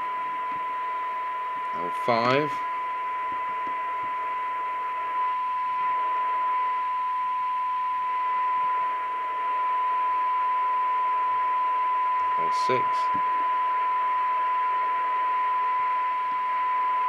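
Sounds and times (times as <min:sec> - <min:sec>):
radio speaker test tone: 0:00.0 - 0:17.0.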